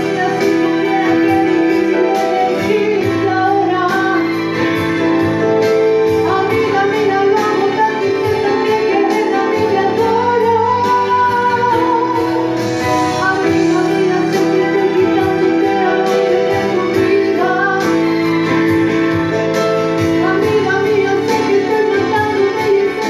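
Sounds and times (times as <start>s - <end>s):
backing music: 0.0s - 23.0s
woman singing ballad: 0.0s - 23.0s.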